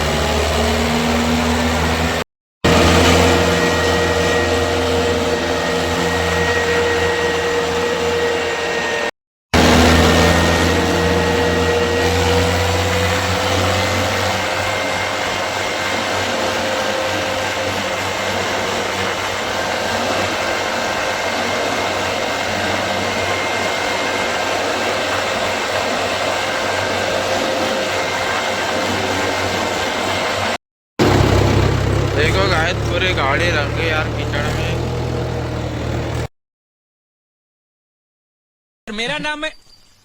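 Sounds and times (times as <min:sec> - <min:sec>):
tractor running: 0:00.0 - 0:09.0, 0:09.6 - 0:36.3.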